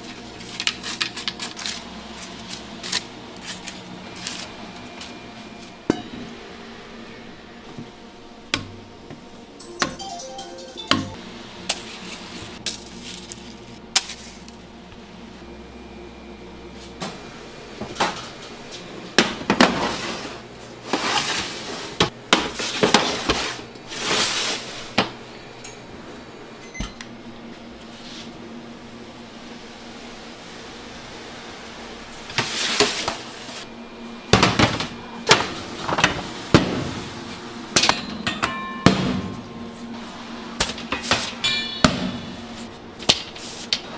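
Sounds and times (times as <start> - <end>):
steady kitchen hum: 0.0 - 43.9.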